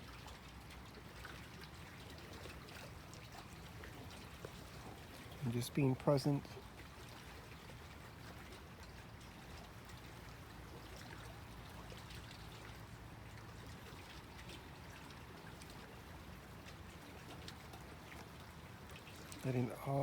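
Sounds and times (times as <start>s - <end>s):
waves lapping at shore: 0.0s - 20.0s.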